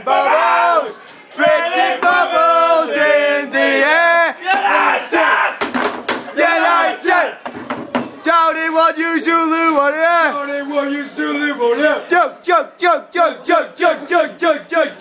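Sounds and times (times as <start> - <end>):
young men chanting and yelling: 0.0 - 15.0.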